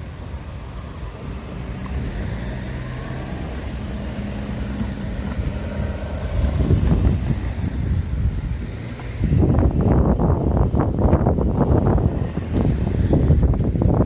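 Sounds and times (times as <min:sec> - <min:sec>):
traffic passing: 0:00.0 - 0:14.0
vehicle engine running: 0:00.0 - 0:14.0.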